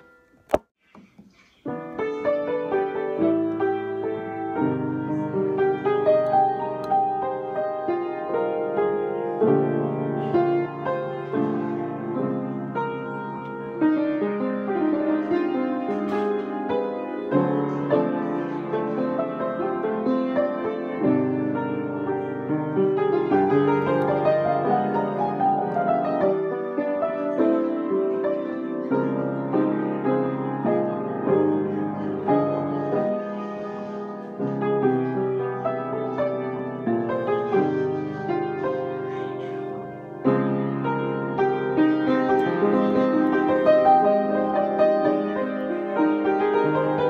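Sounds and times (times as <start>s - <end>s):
solo piano music: 0.0s - 0.8s, 1.6s - 47.0s.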